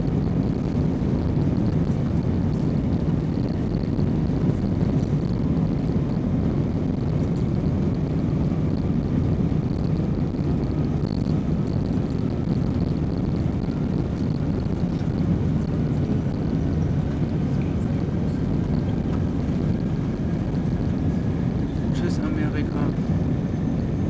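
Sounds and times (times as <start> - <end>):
high engine whine: 0.0 - 24.0
jet airliner engine rumble: 0.0 - 24.0.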